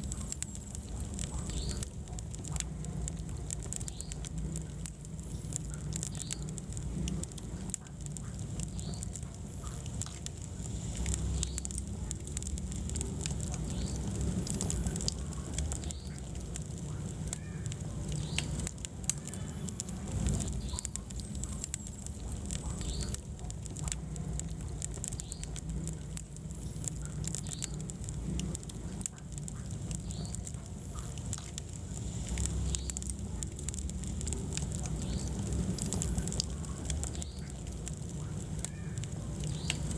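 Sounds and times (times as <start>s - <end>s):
fire rumbling: 0.0s - 39.9s
logs crackling and popping: 0.0s - 39.9s.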